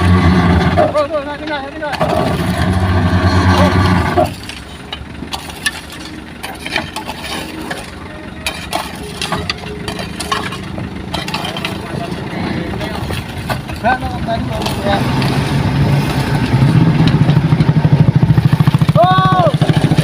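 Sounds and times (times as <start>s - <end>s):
heavy diesel engine running: 0.0s - 20.0s
low engine hum: 0.0s - 20.0s.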